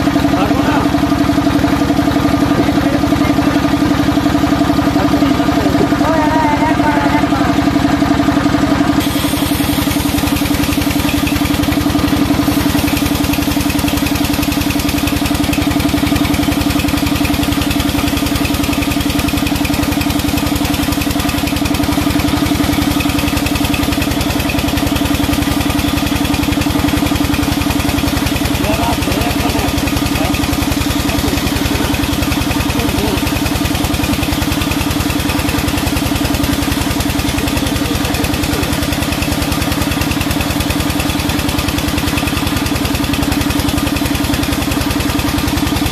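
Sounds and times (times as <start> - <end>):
band sawmill humming: 0.0 - 45.9.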